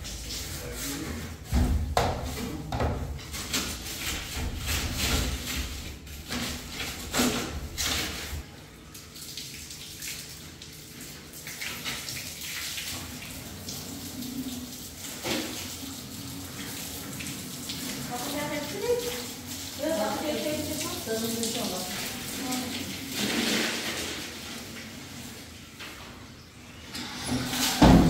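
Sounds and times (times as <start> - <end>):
broom scrubbing wet floor: 0.0 - 25.8
water running: 0.0 - 28.0.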